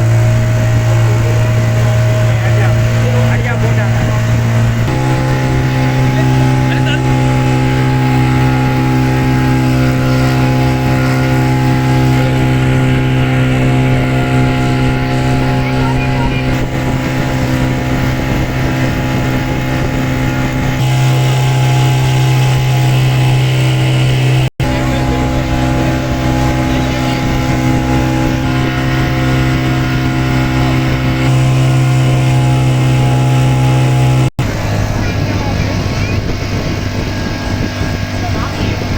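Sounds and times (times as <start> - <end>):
motorboat engine droning: 0.0 - 38.9.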